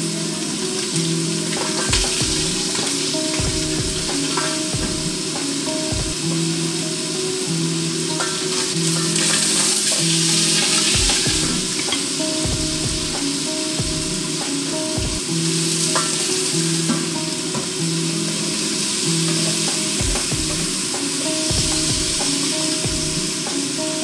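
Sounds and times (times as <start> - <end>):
background music with bass notes: 0.0 - 24.0
food sizzling in a frying pan: 0.0 - 24.0.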